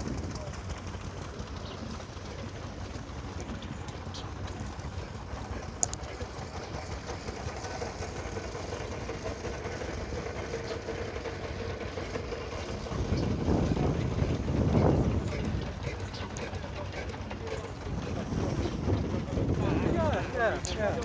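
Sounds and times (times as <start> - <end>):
threshing machine humming: 0.0 - 21.0.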